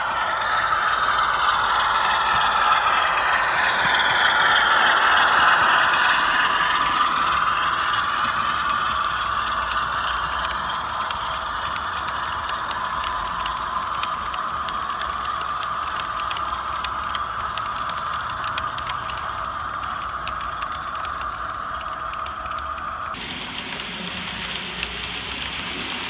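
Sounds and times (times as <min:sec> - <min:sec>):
model train running past: 0:00.0 - 0:26.0.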